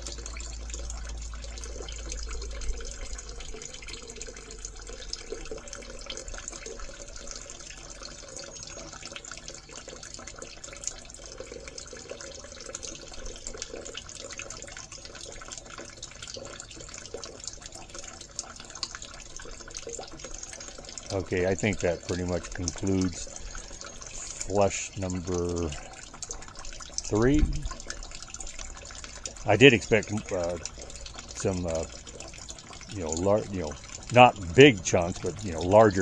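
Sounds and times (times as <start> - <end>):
water trickling into a bucket: 0.0 - 36.0.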